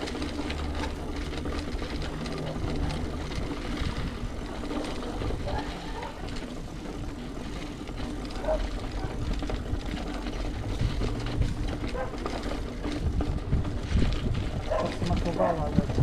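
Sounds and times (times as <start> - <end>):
bicycle rattling clicks: 0.0 - 16.0
bicycle tyre rumble: 0.0 - 16.0.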